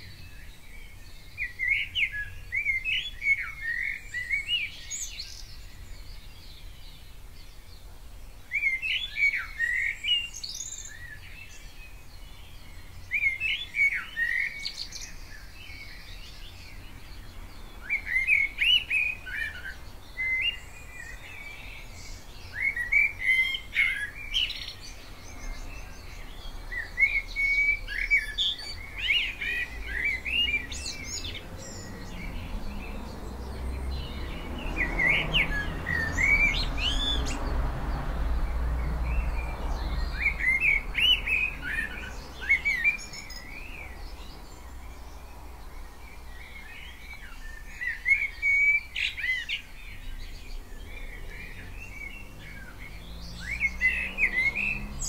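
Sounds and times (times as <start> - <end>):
blackbird singing: 0.0 - 55.0.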